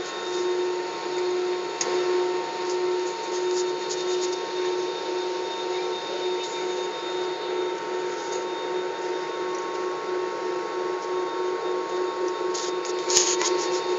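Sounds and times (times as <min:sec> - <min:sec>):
jet engines in cabin: 0:00.0 - 0:13.9.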